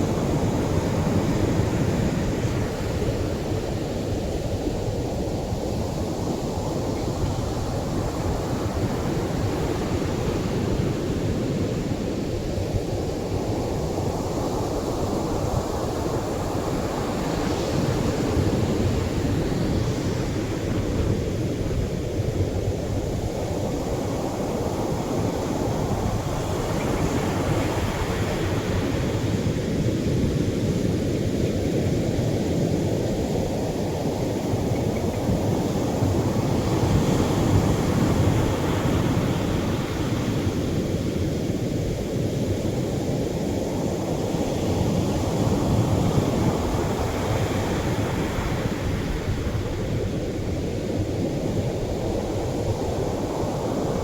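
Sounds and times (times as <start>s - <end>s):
surf rumbling on beach: 0.0s - 54.0s.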